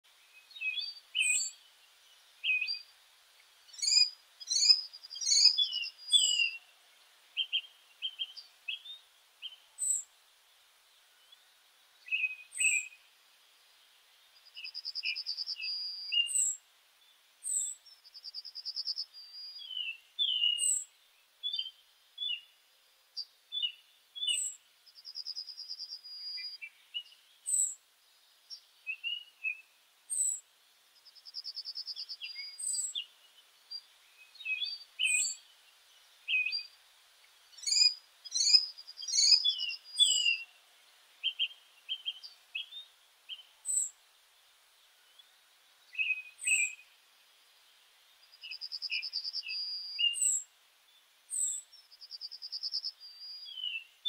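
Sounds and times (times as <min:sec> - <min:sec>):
birds chirping and trilling: 0:00.2 - 0:10.1, 0:11.2 - 0:13.1, 0:14.3 - 0:22.6, 0:23.2 - 0:30.4, 0:31.0 - 0:40.6, 0:41.2 - 0:44.0, 0:45.0 - 0:46.9, 0:48.2 - 0:50.4, 0:51.3 - 0:54.0.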